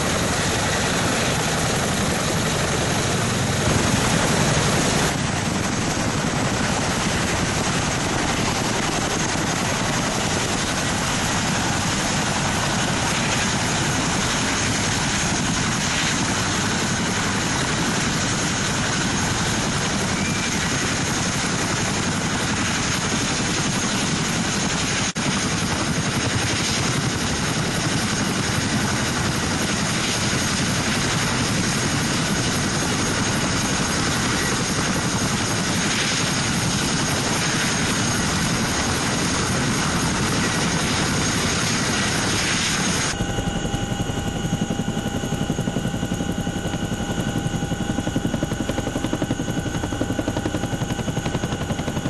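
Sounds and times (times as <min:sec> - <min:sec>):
helicopter rotor and turbine noise: 0:00.0 - 0:52.0.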